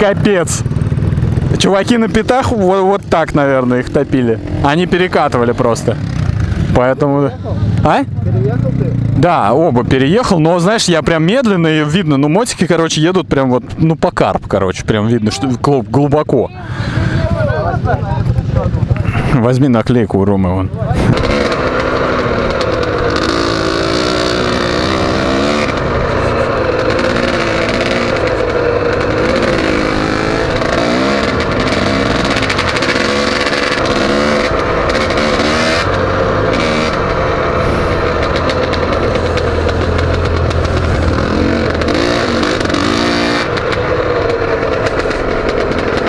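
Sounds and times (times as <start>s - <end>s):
dirt bike engine revving: 0.0s - 12.3s, 20.9s - 46.0s.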